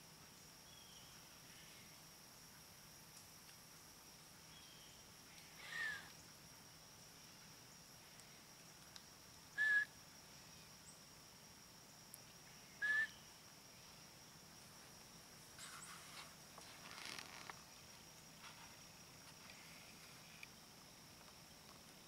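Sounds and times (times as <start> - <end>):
faint steady high hiss: 0.0 - 22.0.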